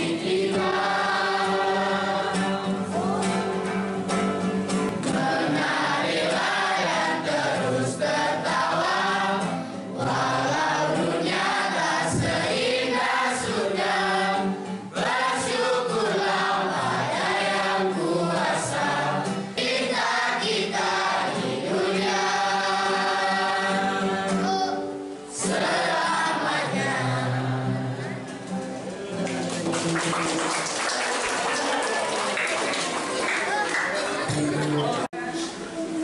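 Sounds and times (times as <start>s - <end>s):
children's choir singing: 0.0s - 4.1s, 4.9s - 35.1s.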